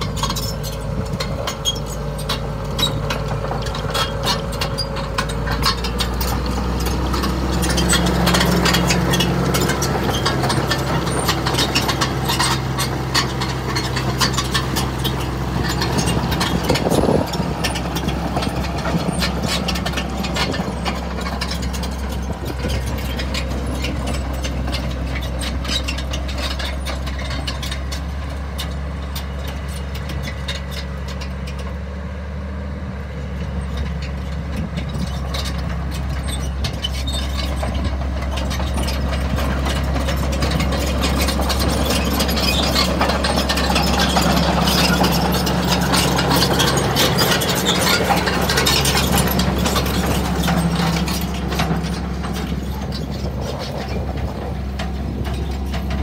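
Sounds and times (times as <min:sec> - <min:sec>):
steel tracks clattering and squeaking: 0:00.0 - 0:32.0, 0:33.1 - 0:56.0
diesel engine running: 0:00.0 - 0:56.0.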